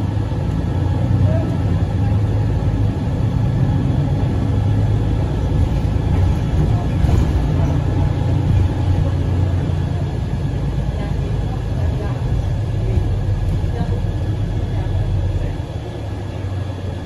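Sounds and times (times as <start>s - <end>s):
vehicle cabin rumble: 0.0s - 17.0s.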